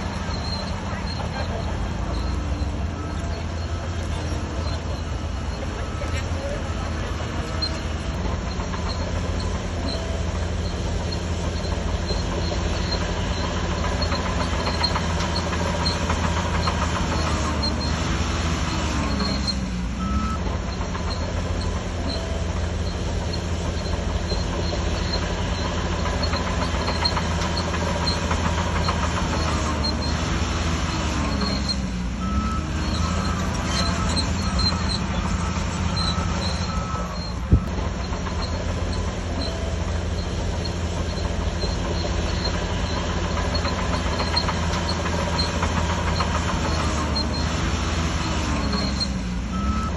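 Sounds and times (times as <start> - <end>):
bulldozer diesel engine running: 0.0 - 49.9
steel tracks clattering and squeaking: 0.0 - 49.9.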